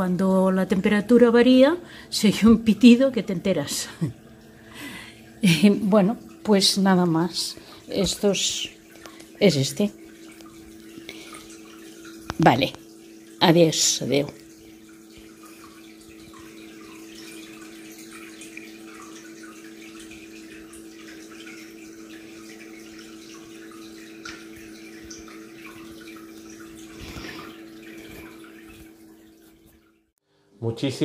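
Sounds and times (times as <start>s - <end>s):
low equipment hum: 0.0s - 29.9s
aquarium water trickling and splashing: 0.0s - 31.0s.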